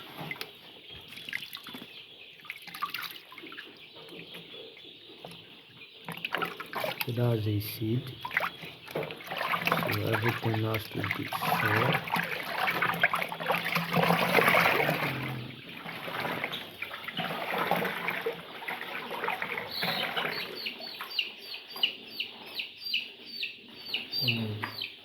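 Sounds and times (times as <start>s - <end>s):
chicks peeping: 0.0s - 17.3s, 18.4s - 25.0s
water sloshing and splashing: 0.0s - 22.0s.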